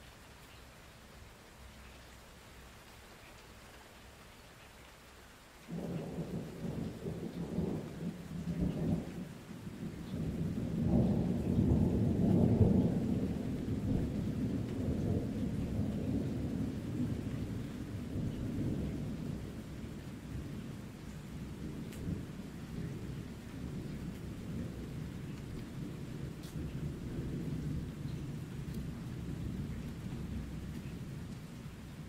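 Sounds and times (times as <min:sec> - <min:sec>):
steady rain: 0:00.0 - 0:32.0
deep rolling thunder: 0:05.7 - 0:32.0.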